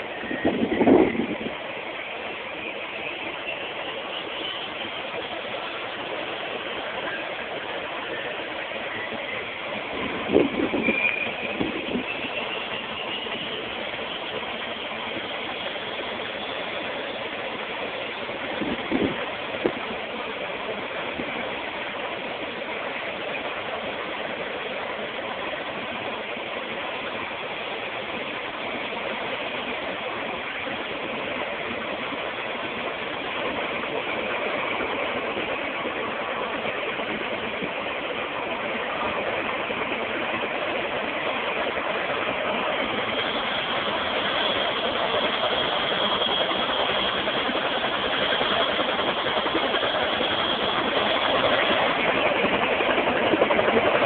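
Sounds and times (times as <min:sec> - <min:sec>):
helicopter turbine engine running: 0:00.0 - 0:54.0.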